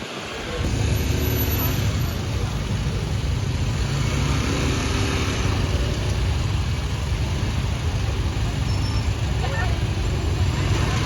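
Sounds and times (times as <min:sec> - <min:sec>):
road noise: 0:00.0 - 0:11.0
vehicle engines running: 0:00.3 - 0:11.0.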